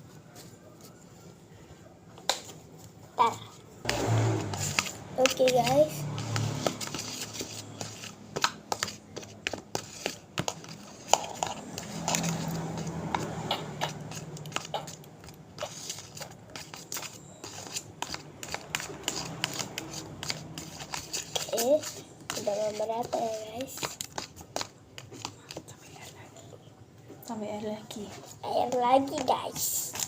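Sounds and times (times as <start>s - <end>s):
slime being stirred and mashed: 3.2s - 26.2s, 27.8s - 30.0s.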